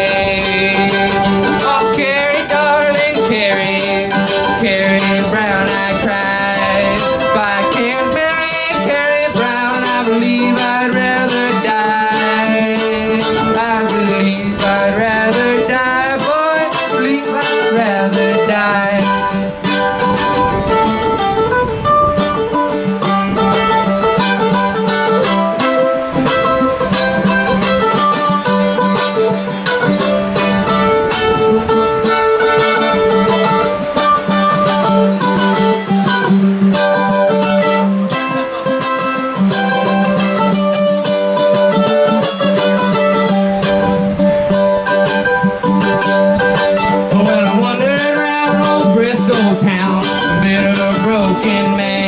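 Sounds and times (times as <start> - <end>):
acoustic guitar melody: 0.0 - 52.0.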